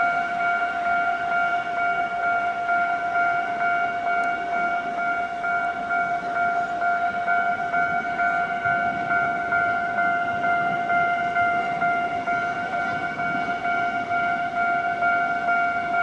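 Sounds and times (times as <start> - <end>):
electronic warning bell tone: 0.0 - 16.0.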